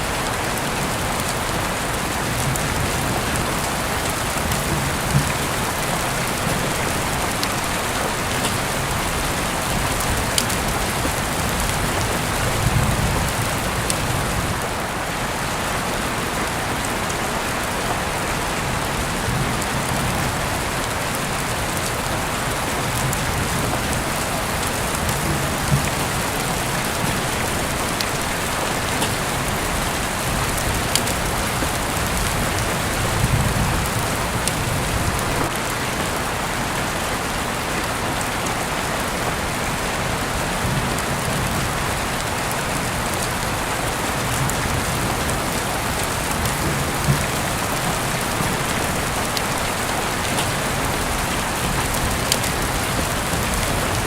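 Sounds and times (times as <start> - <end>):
heavy rain falling: 0.0 - 54.0
raindrop ticks: 0.2 - 14.8, 18.9 - 35.8, 40.5 - 54.0.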